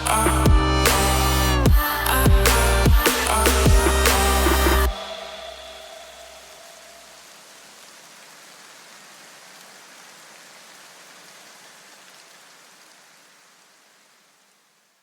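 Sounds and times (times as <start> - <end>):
steady rain-like hiss: 0.0 - 15.0.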